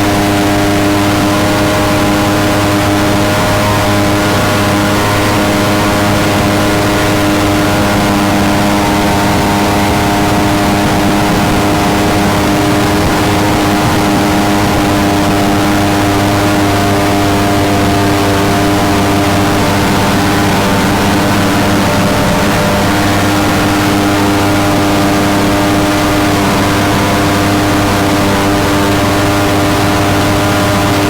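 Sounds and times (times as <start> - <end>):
jet boat engine running: 0.0 - 31.0
rushing noise: 0.0 - 31.0.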